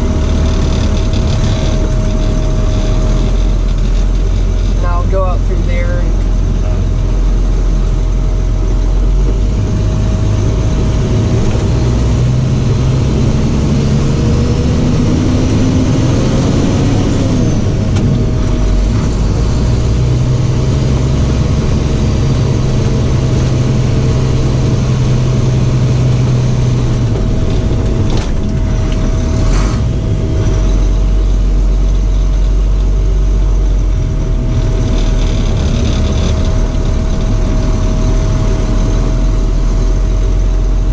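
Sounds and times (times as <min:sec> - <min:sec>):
road and wind noise: 0:00.0 - 0:40.9
thin whine: 0:00.0 - 0:40.9
truck engine running: 0:00.0 - 0:40.9.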